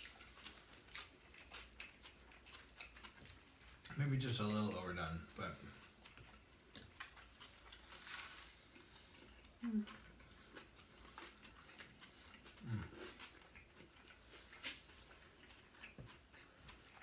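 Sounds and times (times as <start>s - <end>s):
wet chewing clicks: 0.0s - 17.0s.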